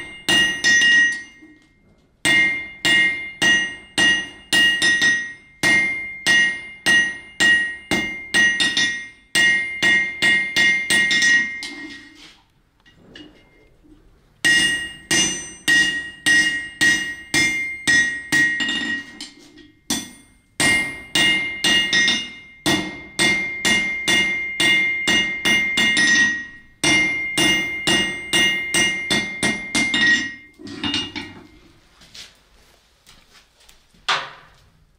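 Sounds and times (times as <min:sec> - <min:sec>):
hammer ringing on anvil: 0:00.0 - 0:01.6, 0:02.3 - 0:11.8, 0:14.5 - 0:31.6.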